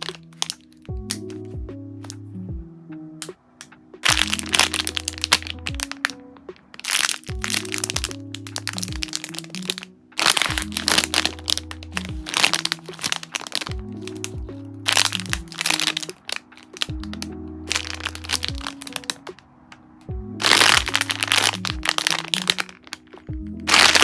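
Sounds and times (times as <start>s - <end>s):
plastic bags crinkling: 0.0s - 0.9s, 4.0s - 19.3s, 20.4s - 24.0s
soft background music: 0.0s - 24.0s.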